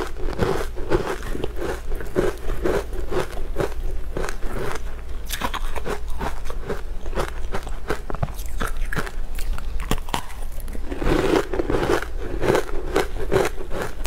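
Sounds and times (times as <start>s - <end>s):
chewing crunchy pastry: 0.0s - 14.0s.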